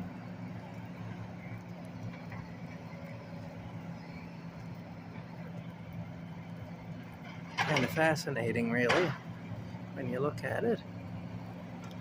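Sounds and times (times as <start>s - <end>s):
heavy machinery engine humming: 0.0s - 12.0s.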